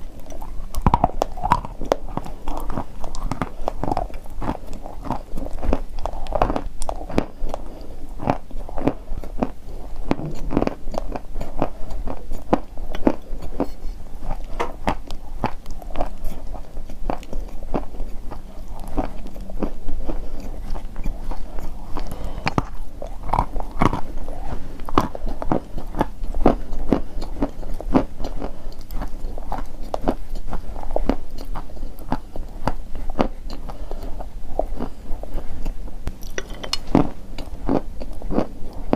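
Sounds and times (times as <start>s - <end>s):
person chewing crunchy chalk: 0.0s - 38.9s.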